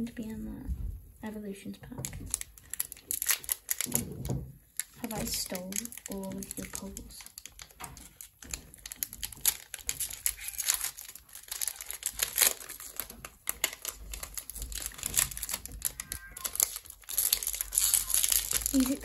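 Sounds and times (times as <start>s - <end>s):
foil wrapper crinkling: 2.0s - 19.0s.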